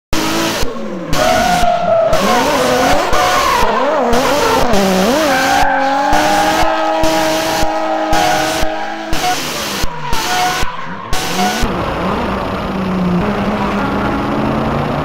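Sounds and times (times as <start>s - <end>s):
tyre screeching: 0.2s - 12.4s.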